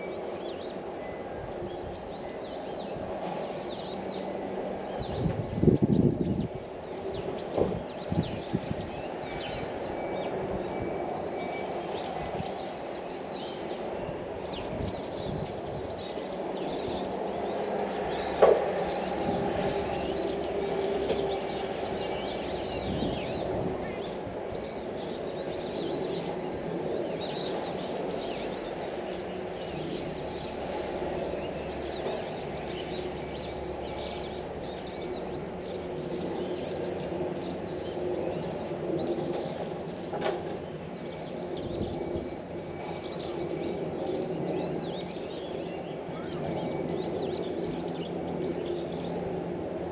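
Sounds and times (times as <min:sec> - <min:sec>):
low outdoor hum: 0:00.0 - 0:49.9
small birds chirping: 0:00.0 - 0:49.9.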